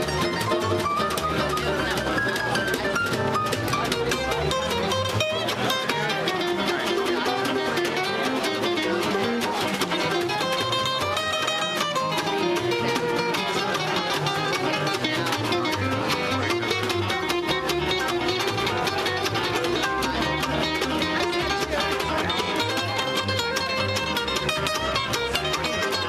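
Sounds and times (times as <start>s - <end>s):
acoustic guitar single-note runs: 0.0s - 26.0s
guitar accompaniment: 0.0s - 26.0s
upright bass: 0.0s - 26.0s.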